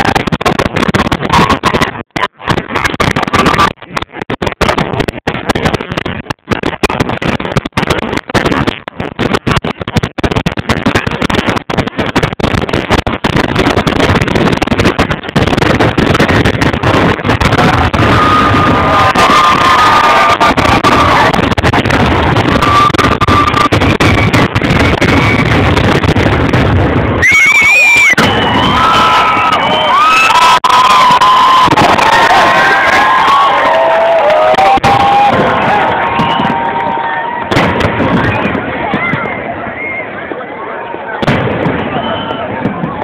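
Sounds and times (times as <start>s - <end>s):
fireworks bursting and crackling: 0.0s - 40.4s, 41.1s - 43.0s
high whistling fireworks: 0.0s - 43.0s.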